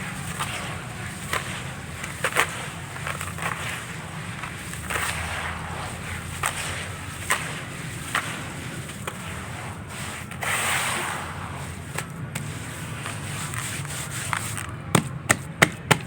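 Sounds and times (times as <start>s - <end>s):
gritty crumbling: 0.0s - 16.0s
steady low hum: 0.0s - 16.0s.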